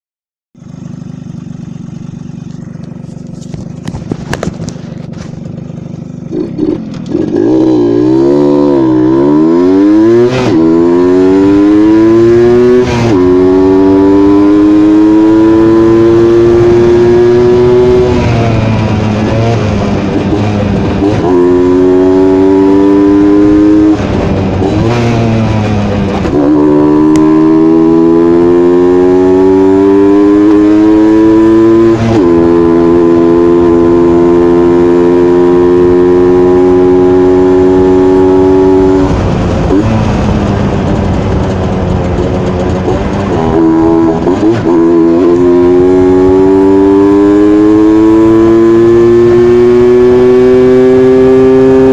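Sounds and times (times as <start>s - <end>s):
motorcycle engine revving: 0.6s - 51.9s.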